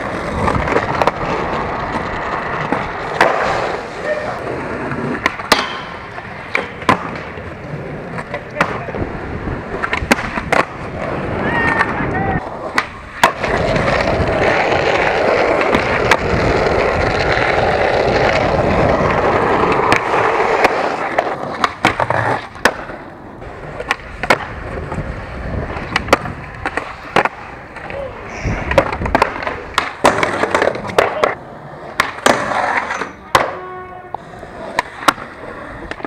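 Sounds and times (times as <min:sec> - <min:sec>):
skateboard cracks and clacks: 0:00.0 - 0:36.0
skateboard grinding a rail: 0:00.0 - 0:36.0
skateboard wheels rolling on asphalt: 0:00.0 - 0:36.0.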